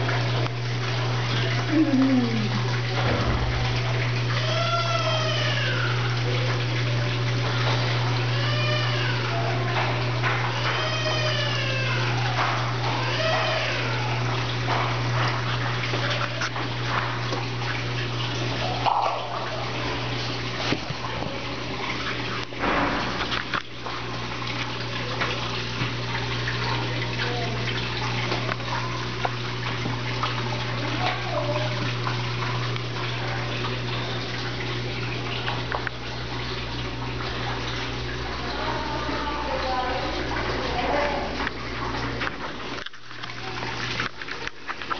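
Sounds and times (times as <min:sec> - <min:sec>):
low motor hum: 0:00.0 - 0:44.9
water sloshing in washing machine: 0:00.0 - 0:44.9.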